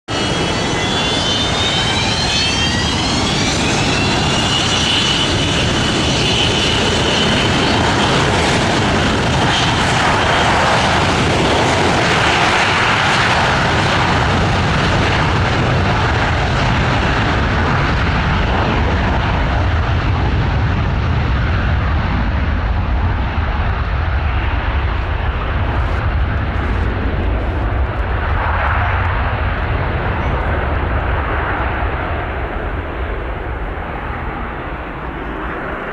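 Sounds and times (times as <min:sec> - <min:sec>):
jet engines roaring at takeoff: 0:00.1 - 0:35.9
rising turbine whine: 0:00.1 - 0:35.9.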